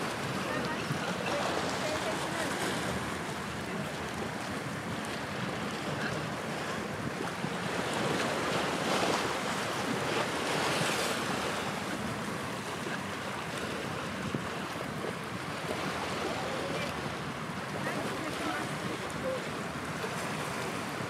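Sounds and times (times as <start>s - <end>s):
waves on open water: 0.0s - 21.0s.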